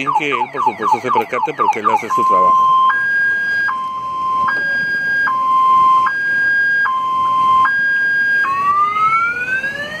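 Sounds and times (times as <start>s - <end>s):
car alarm siren: 0.0s - 10.0s.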